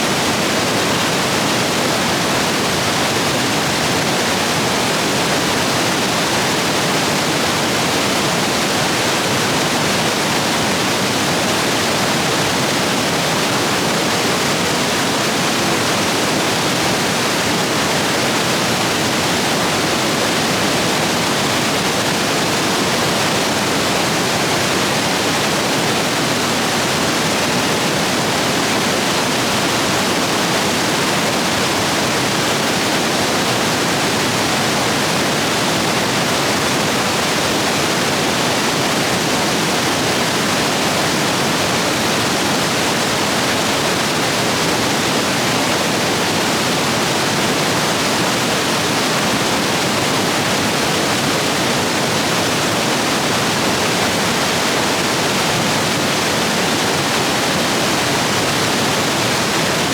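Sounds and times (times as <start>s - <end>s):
stream rapids roaring over rocks: 0.0s - 59.9s.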